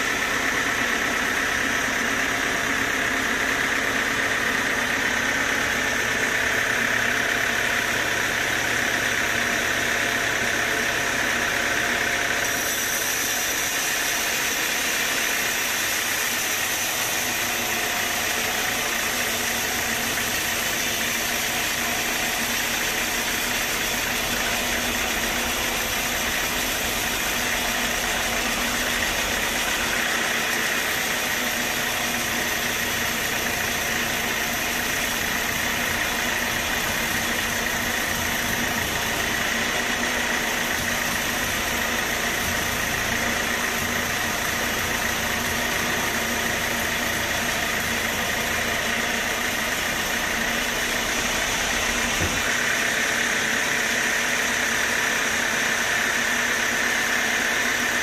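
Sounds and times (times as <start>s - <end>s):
band sawmill running: 0.0s - 58.0s.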